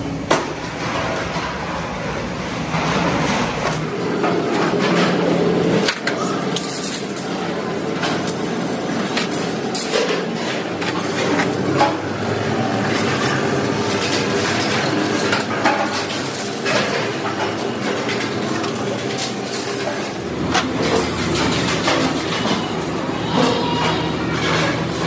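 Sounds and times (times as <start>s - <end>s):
steady machine noise: 0.0s - 25.0s.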